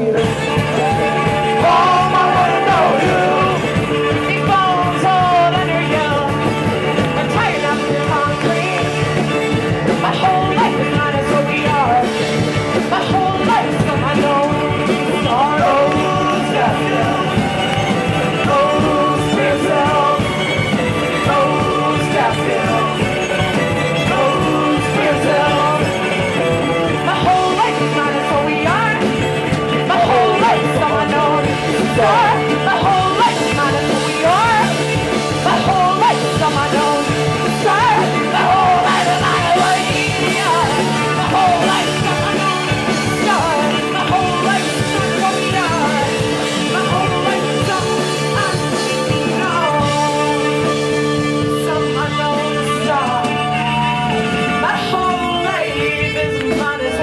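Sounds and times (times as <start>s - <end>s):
drum kit beat: 0.0s - 57.0s
live rock band playing: 0.0s - 57.0s
sliding lead melody: 0.0s - 57.0s.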